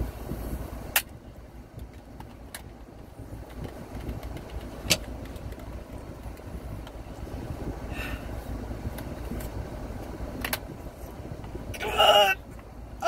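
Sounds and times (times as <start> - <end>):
low rumble in car cabin: 0.0 - 13.0.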